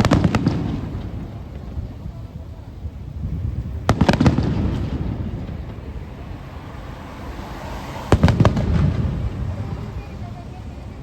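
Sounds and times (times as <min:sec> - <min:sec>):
fireworks bangs: 0:00.0 - 0:11.0
rolling low rumble: 0:00.0 - 0:11.0.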